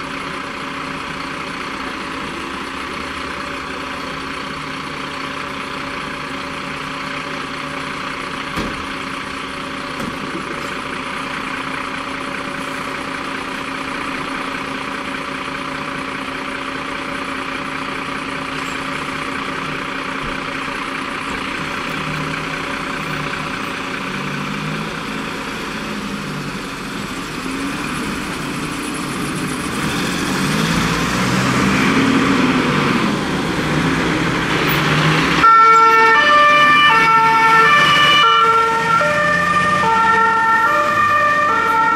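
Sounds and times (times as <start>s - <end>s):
diesel truck engines idling: 0.0s - 41.9s
truck pulling out: 0.0s - 41.9s.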